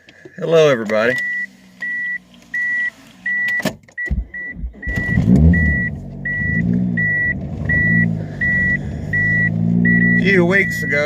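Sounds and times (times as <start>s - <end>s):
car engine starting and revving: 0.9s - 11.0s
car warning chime beeping: 0.9s - 11.0s.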